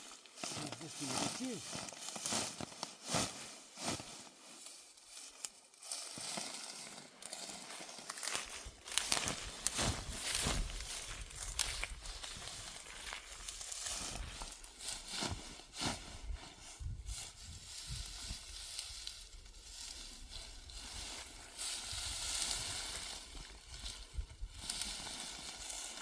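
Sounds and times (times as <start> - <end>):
dry crackling and rustling: 0.0 - 26.0.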